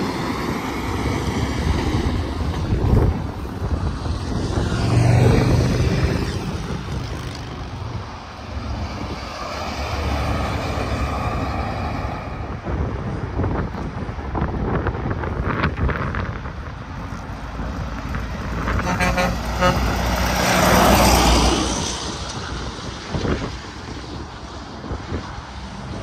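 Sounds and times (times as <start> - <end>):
trucks passing on highway: 0.0 - 26.0.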